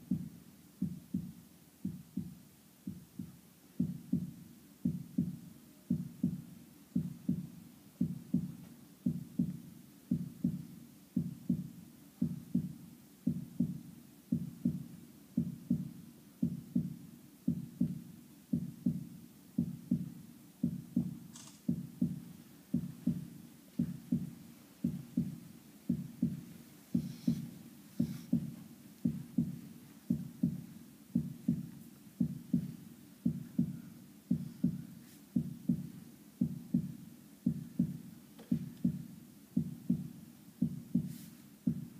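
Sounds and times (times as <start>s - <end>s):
heartbeat double thump: 0.0s - 41.9s.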